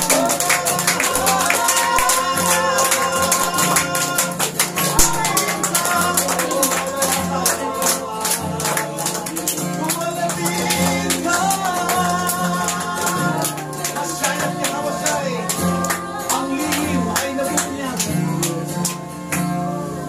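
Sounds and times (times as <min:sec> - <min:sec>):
hand claps: 0:00.0 - 0:19.7
congregation singing: 0:00.0 - 0:20.0.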